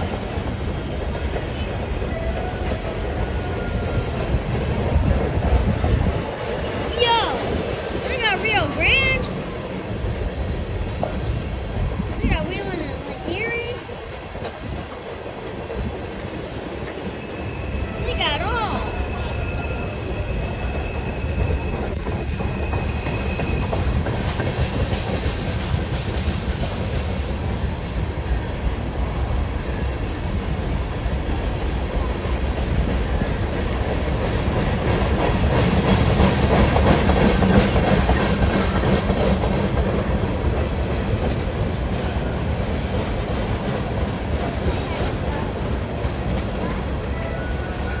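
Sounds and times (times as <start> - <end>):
freight train wheels clacking: 0.0 - 48.0.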